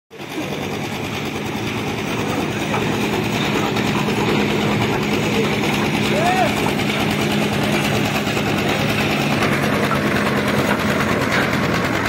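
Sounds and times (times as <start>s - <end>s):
concrete mixer engine running: 0.1s - 12.0s.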